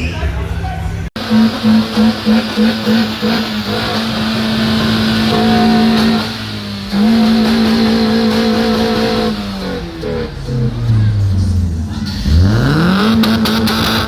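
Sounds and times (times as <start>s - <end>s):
car engine revving: 1.0s - 14.0s.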